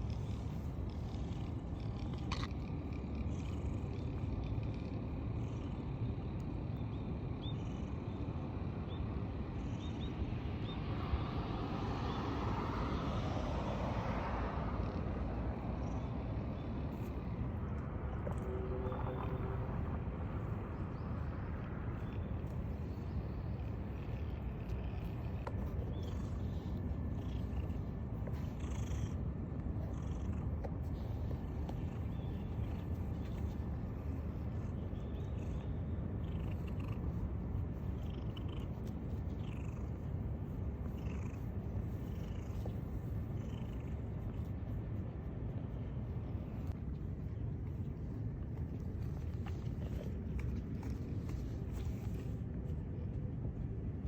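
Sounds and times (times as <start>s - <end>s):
cat purring: 0.0s - 6.5s, 15.8s - 52.8s.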